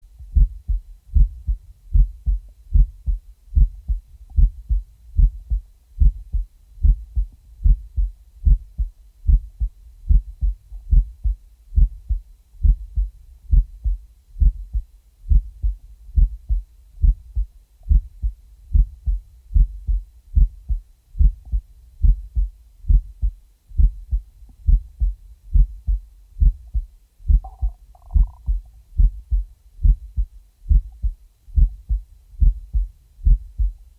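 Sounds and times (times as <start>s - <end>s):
heartbeat thumps: 0.0s - 33.9s.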